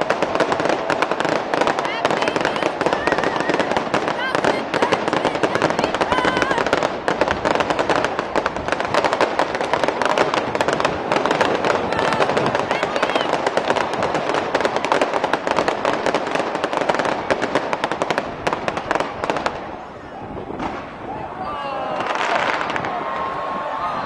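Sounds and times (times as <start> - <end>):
fireworks crackling: 0.0 - 21.2, 21.9 - 23.5.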